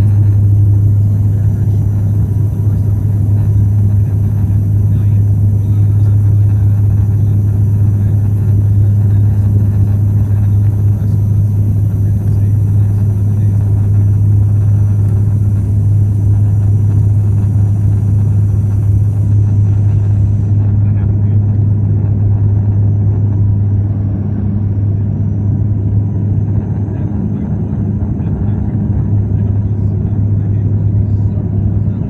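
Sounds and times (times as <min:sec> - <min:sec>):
propeller engine drone: 0:00.0 - 0:32.0.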